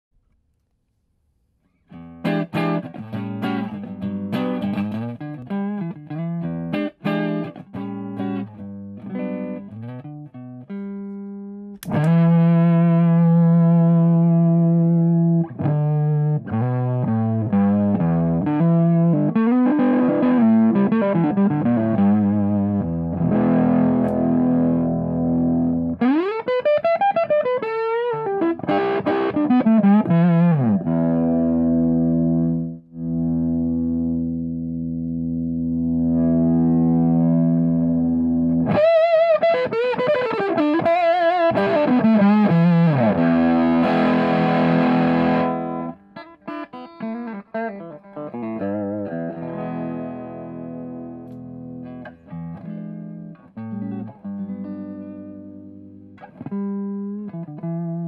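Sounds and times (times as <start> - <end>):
electric guitar with fuzz: 1.9 - 58.0.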